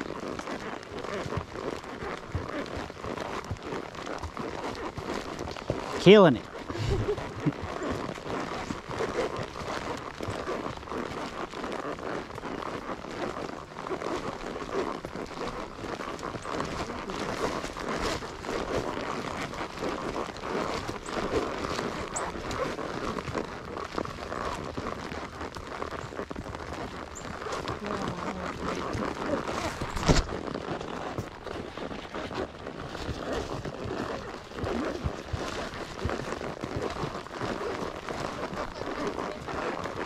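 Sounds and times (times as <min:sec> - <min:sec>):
horse hoofbeats: 0:00.0 - 0:40.0
rustling: 0:00.0 - 0:40.0.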